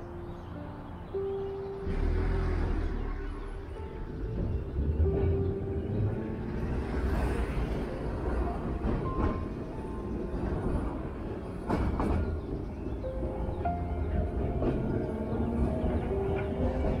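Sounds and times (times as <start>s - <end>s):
tram rumbling on rails: 0.0s - 17.0s
wheels clacking over track: 3.4s - 17.0s.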